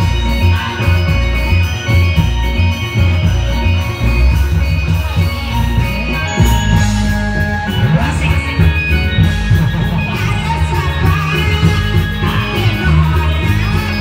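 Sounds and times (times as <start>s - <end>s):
electronic keyboard melody: 0.0s - 14.0s
steady drum beat: 0.0s - 14.0s.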